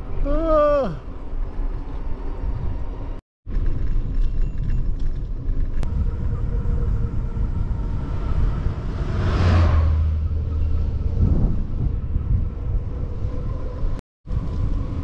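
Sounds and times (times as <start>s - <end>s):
wind rumble on microphone: 1.0s - 15.0s.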